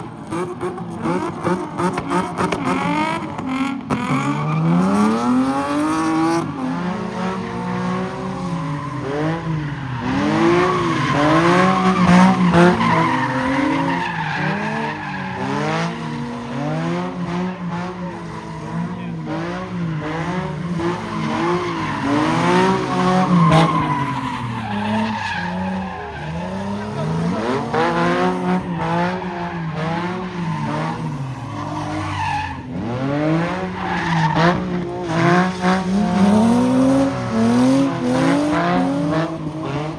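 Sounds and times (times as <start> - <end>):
car engine revving: 0.0 - 39.9
tyres squealing and skidding: 0.1 - 39.9.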